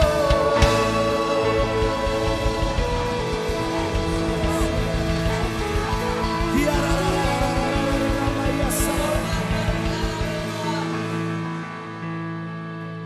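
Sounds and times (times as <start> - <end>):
singing over fast beat: 0.0 - 11.2
held chord: 0.0 - 13.0.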